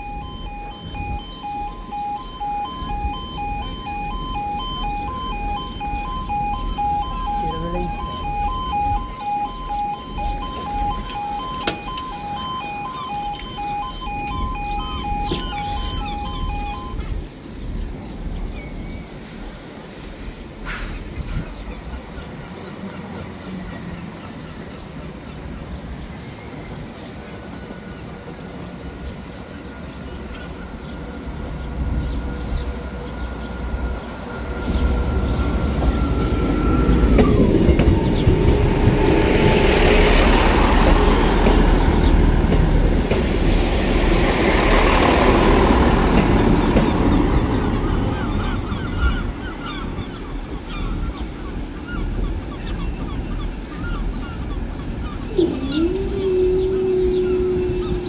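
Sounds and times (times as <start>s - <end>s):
train wheels on rails: 0.0s - 18.4s, 19.0s - 58.0s
diesel train engine: 0.0s - 58.0s.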